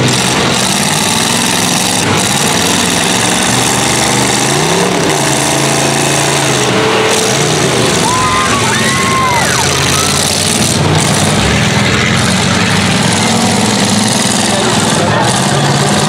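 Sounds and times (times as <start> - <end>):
engine revving: 0.0 - 16.0
van engines running hard: 0.0 - 16.0.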